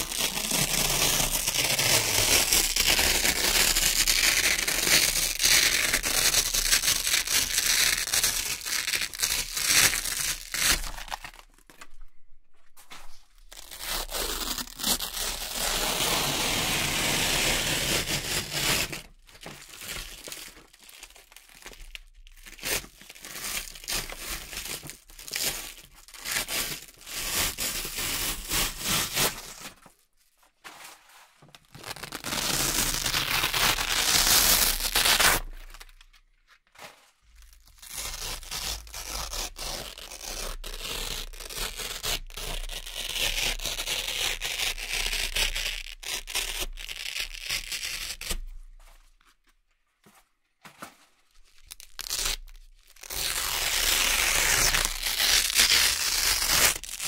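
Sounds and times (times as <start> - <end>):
velcro strips ripping apart: 0.0 - 11.7, 13.4 - 29.8, 31.7 - 36.0, 37.4 - 48.5, 51.4 - 57.0.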